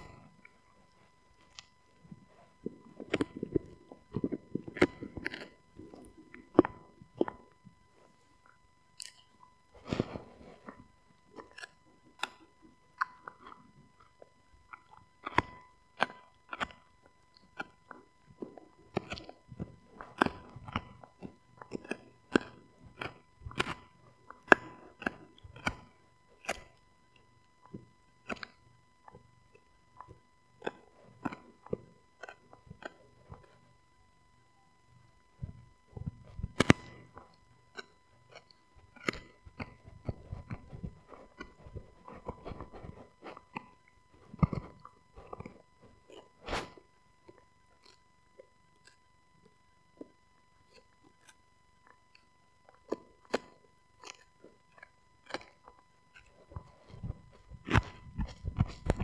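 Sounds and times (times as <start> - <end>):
dog teeth crunching chew bone: 0.0 - 7.6, 8.4 - 33.7, 35.4 - 49.0, 50.0 - 59.0.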